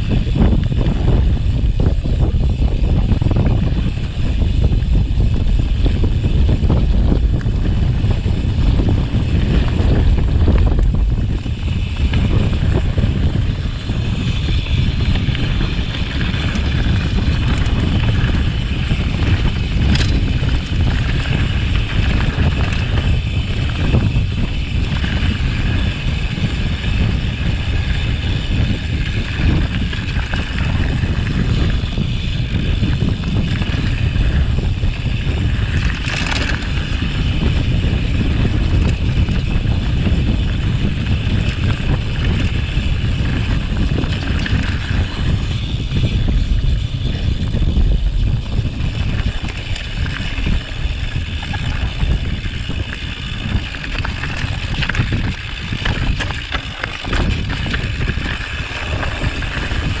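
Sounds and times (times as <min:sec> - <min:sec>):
bike tyres rattling on stones: 0:00.0 - 1:00.0
wind rumble on microphone: 0:00.0 - 1:00.0.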